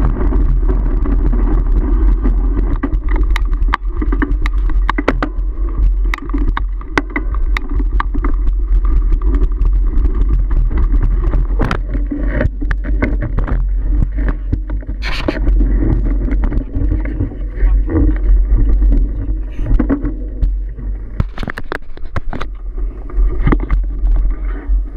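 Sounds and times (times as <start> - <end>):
bike clicking and rattling: 0.0 - 24.9
wind rumble on microphone: 0.0 - 24.9.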